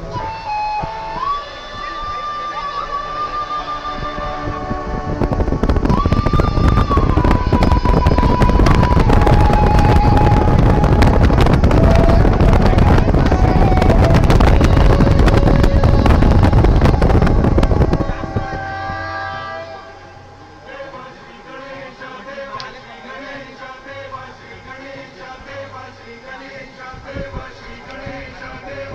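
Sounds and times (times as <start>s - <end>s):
music with long held note: 0.0s - 28.9s.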